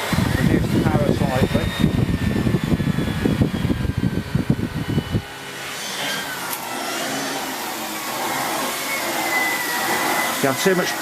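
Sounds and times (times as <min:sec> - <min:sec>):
vacuum cleaner rough rumble: 0:00.0 - 0:11.0
vacuum motor whine: 0:00.0 - 0:11.0.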